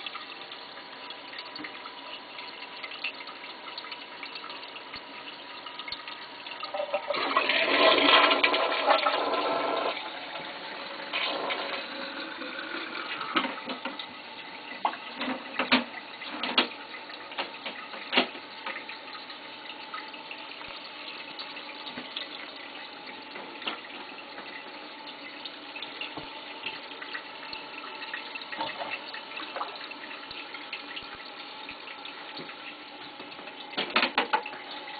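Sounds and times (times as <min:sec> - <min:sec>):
toilet refilling with water: 0:00.0 - 0:34.9.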